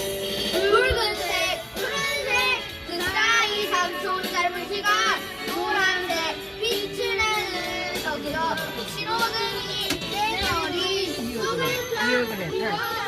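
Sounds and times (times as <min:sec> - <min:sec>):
children singing: 0:00.0 - 0:13.0
music: 0:00.0 - 0:13.0.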